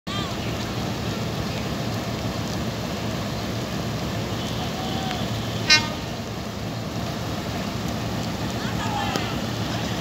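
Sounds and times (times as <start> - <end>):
diesel locomotive engine rumble: 0.1 - 10.0.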